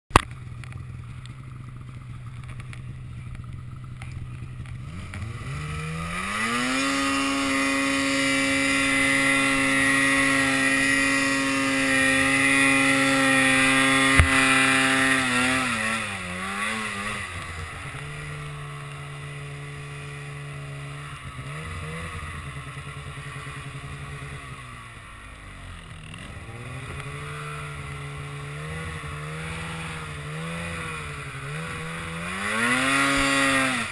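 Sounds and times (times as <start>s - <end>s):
snowmobile engine revving: 0.4s - 33.9s.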